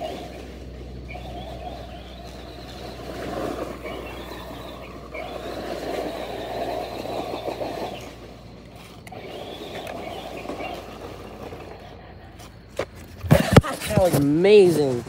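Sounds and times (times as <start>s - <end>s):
toy truck motor whining: 0.0s - 13.6s
tyres tearing at ground: 0.0s - 15.0s.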